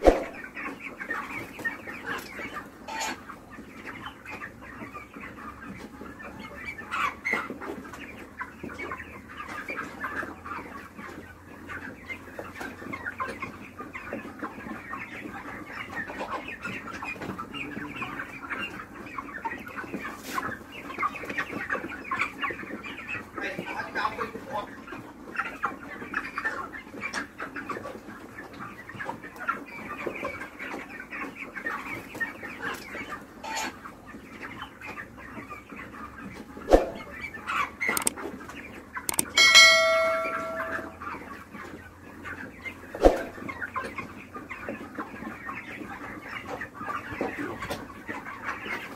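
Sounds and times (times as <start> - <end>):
flock of chickens clucking: 0.0 - 48.9.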